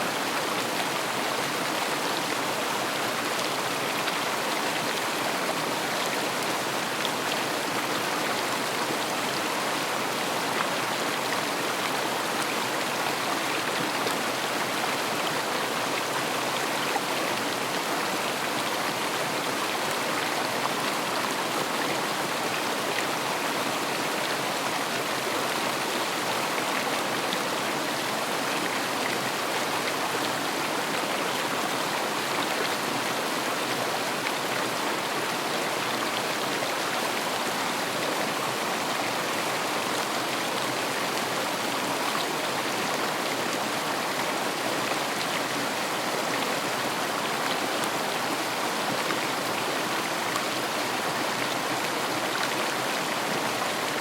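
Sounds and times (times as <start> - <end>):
river babbling over rocks: 0.0 - 54.0.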